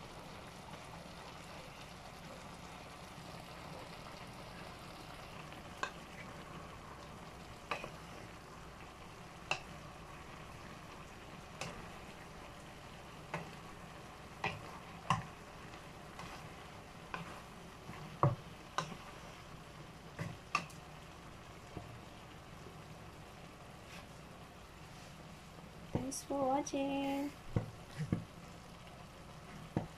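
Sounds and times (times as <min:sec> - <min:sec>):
food sizzling in a pan: 0:00.0 - 0:29.9.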